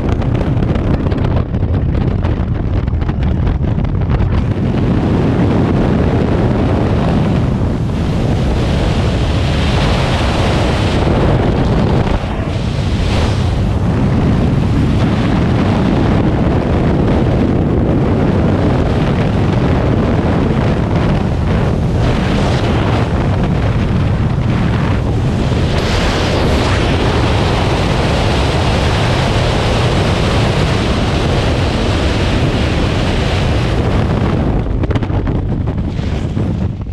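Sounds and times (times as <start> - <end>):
wind roaring on a microphone: 0.0 - 36.9.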